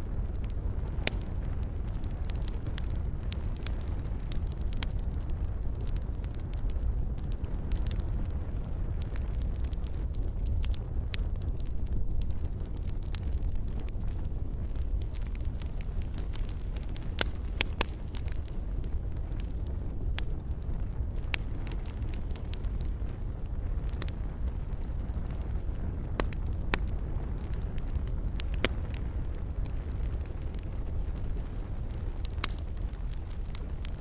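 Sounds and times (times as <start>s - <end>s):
fire crackling in fireplace: 0.0s - 34.0s.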